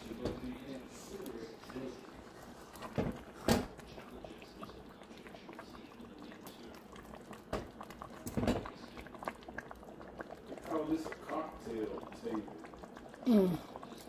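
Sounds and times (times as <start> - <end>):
stew sloshing and bubbling: 0.0 - 14.0.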